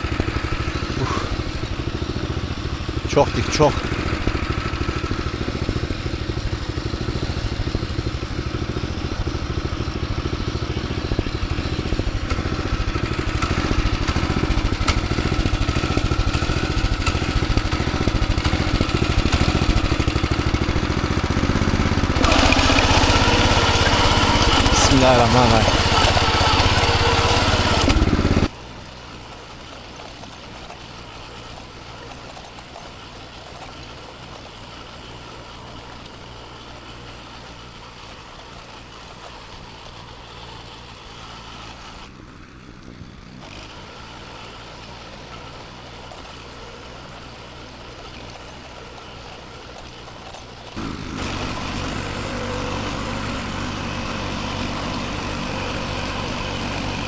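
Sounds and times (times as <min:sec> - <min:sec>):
farm machine engine running: 0:00.0 - 0:57.0.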